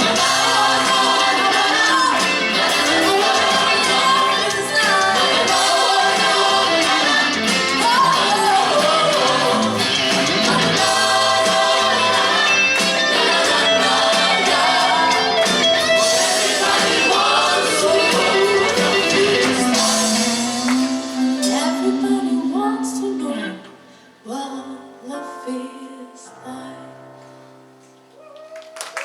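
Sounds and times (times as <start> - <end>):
pop song with singing: 0.0 - 27.1.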